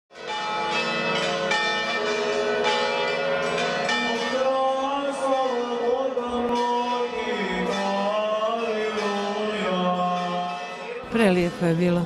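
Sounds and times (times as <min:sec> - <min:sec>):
church bells ringing: 0:00.1 - 0:12.0.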